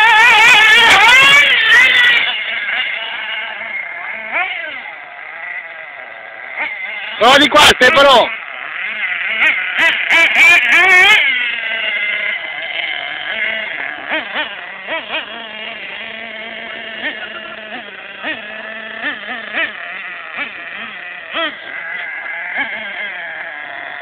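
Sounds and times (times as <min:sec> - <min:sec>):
small engine revving: 0:00.0 - 0:24.0.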